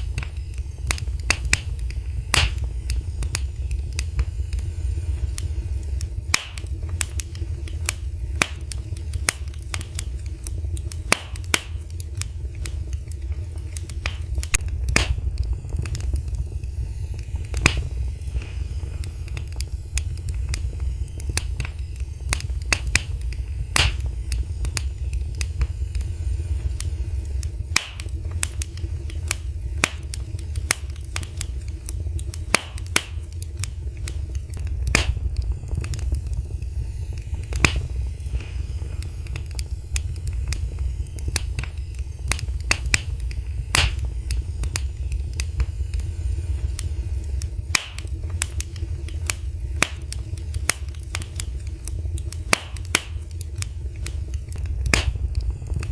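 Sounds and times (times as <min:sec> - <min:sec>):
low rumble of flames: 0:00.0 - 0:55.9
wood fire crackling: 0:00.0 - 0:55.9.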